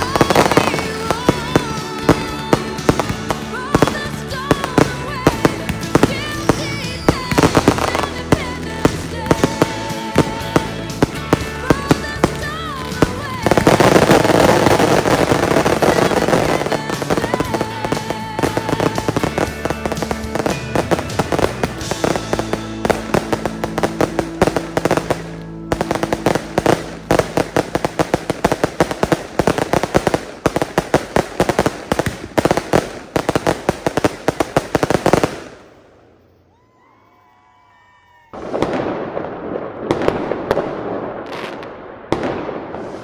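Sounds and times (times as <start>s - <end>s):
background music: 0.0s - 35.9s
fireworks bursts and crackling: 0.0s - 36.5s, 38.3s - 43.0s.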